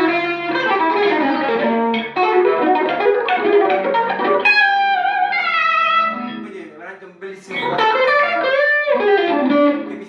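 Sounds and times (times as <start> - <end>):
electric guitar lead line: 0.0 - 6.6, 7.5 - 10.0.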